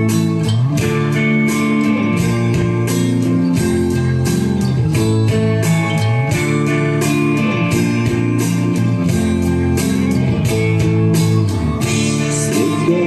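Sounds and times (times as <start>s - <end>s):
guitar: 0.0s - 13.0s
steady drum beat: 0.0s - 13.0s.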